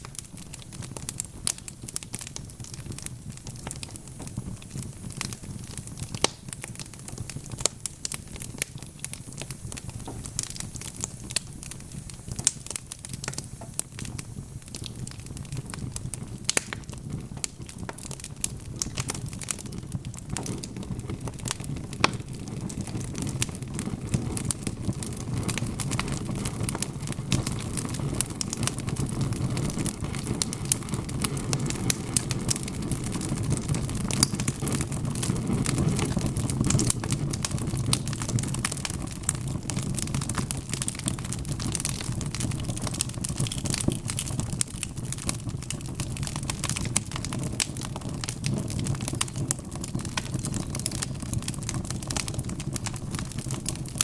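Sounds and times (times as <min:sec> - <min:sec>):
wood logs burning and crackling: 0:00.0 - 0:54.0.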